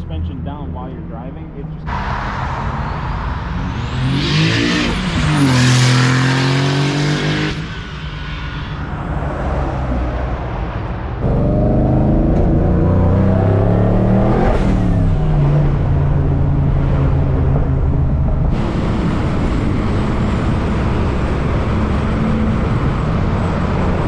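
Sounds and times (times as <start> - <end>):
car engine accelerating hard: 0.0 - 8.0, 8.8 - 24.0.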